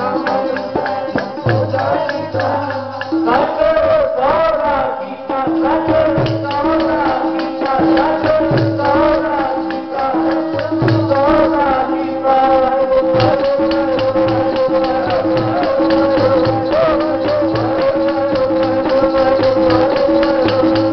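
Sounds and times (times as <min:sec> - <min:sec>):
hand drums: 0:00.0 - 0:04.6, 0:05.3 - 0:20.9
jingling percussion: 0:00.0 - 0:04.6, 0:05.3 - 0:20.9
devotional singing: 0:00.0 - 0:20.9.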